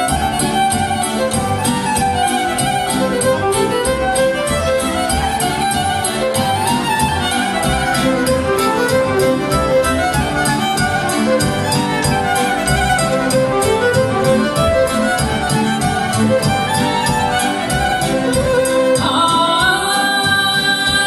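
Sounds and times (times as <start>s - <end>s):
band with fast beat: 0.0s - 21.0s
violins playing dance tune: 0.0s - 21.0s.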